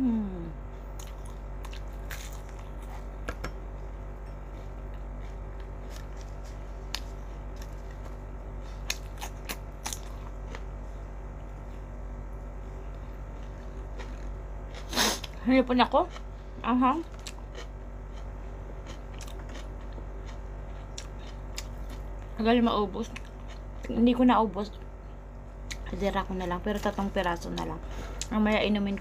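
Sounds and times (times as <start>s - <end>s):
steady background hum: 0.0s - 29.0s
chewing crispy food: 0.9s - 11.6s, 12.8s - 28.7s.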